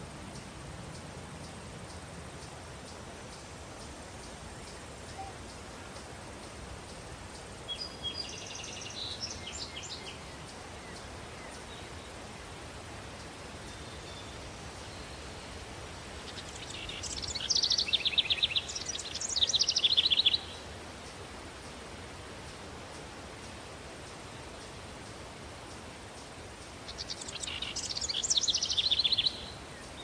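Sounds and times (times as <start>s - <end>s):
outdoor ambience hiss: 0.0s - 30.0s
songbird singing: 0.0s - 30.0s.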